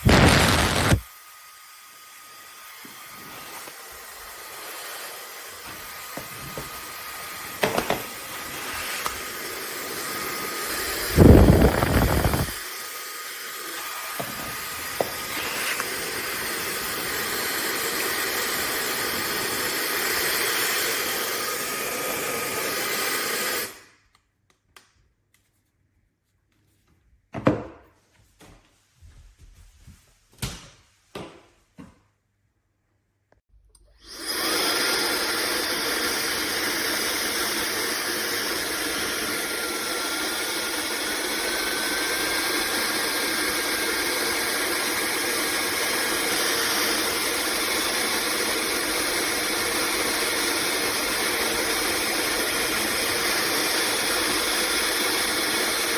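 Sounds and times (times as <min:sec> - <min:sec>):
hair dryer running: 0:00.0 - 0:23.9, 0:34.0 - 0:55.9.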